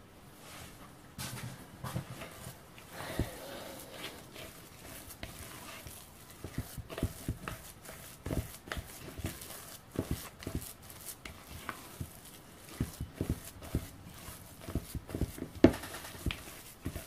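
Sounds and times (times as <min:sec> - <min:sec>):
spatula stirring dough in bowl: 0:02.0 - 0:17.0.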